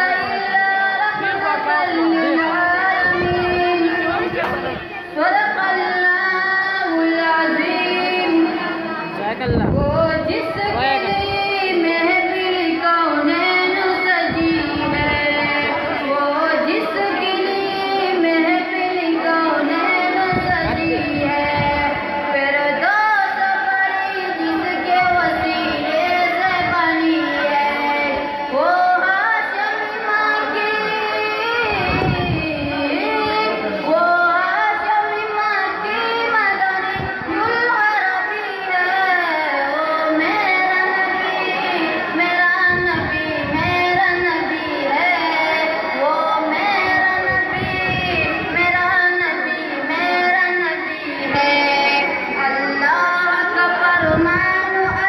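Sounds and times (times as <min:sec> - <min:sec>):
boy singing devotional song: 0:00.0 - 0:55.0.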